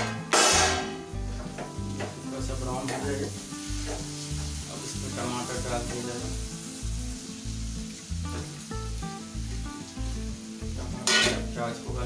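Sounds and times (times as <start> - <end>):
background music: 0.0 - 12.0
masala sizzling in a pan: 0.0 - 12.0.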